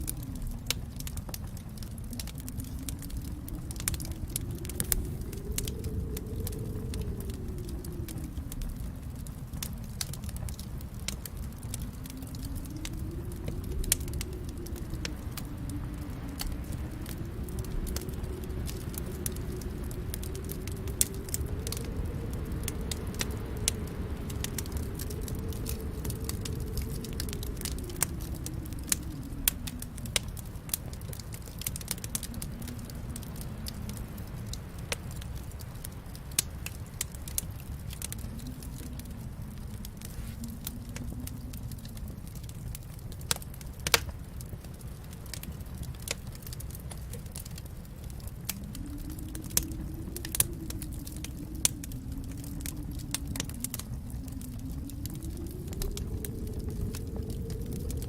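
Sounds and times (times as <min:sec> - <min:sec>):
low rumble of burning: 0:00.0 - 0:58.0
wood fire crackling and popping: 0:00.0 - 0:58.0.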